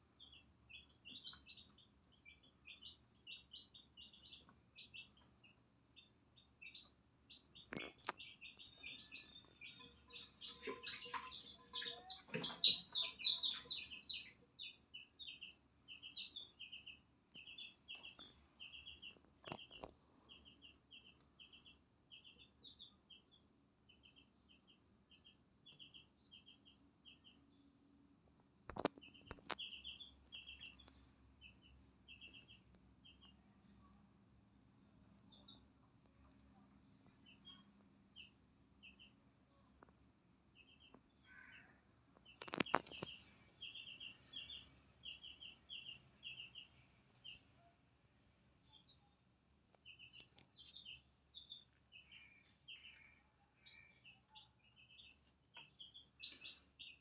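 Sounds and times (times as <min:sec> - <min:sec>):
baby chicks peeping: 0:00.0 - 0:34.2, 0:35.1 - 0:57.0.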